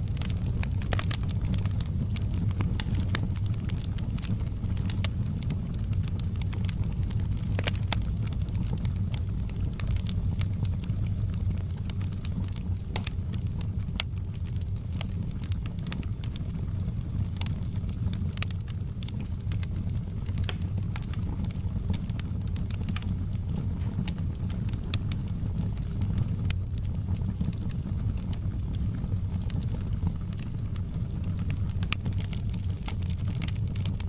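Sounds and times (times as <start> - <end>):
fire crackling and popping: 0.0 - 34.0
wood fire rumbling: 0.0 - 34.0.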